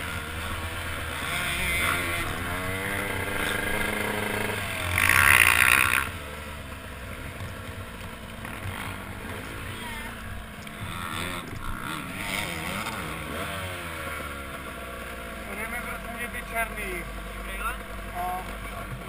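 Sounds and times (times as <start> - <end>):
motocross bike engine: 0.0 - 19.0.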